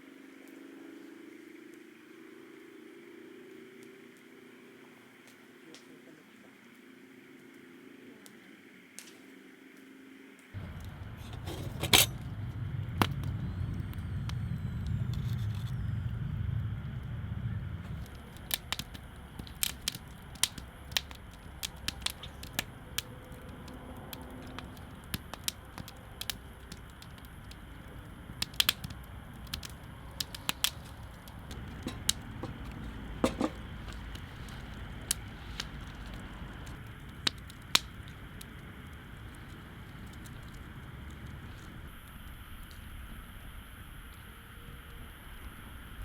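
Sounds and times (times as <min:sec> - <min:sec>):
campfire crackling and popping: 0:00.0 - 0:45.2.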